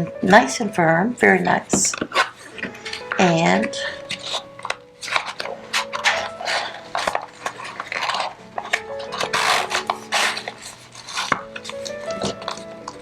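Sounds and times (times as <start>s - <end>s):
soft background music: 0.0s - 13.0s
paper rustling against cover: 1.9s - 13.0s.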